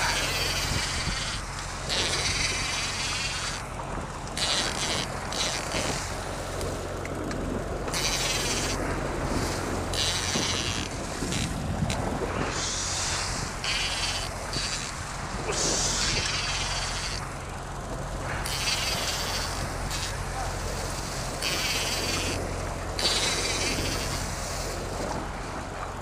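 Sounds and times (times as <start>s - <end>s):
boat engine humming: 0.0s - 26.0s
wind buffeting microphone: 0.0s - 26.0s.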